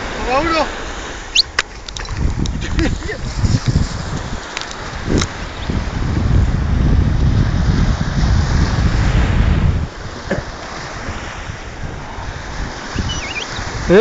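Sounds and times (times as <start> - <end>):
small waves washing ashore: 0.0 - 14.0
wind buffeting microphone: 0.0 - 14.0.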